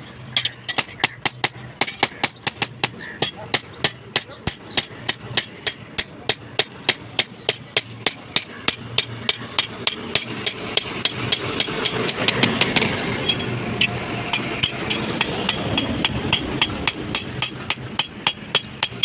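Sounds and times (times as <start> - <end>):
steady background rush: 0.0 - 19.0
hammer striking steel on anvil: 0.3 - 19.0.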